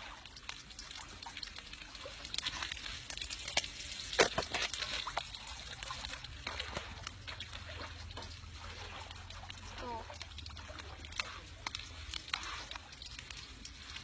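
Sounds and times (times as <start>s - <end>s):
faint trickle of liquid: 0.0s - 14.0s.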